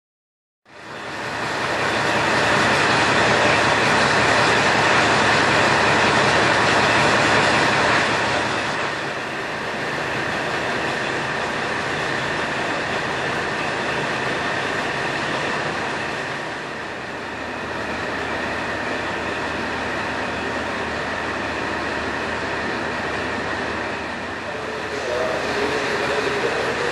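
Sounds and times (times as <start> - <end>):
diesel railcar engine running: 0.7 - 26.9.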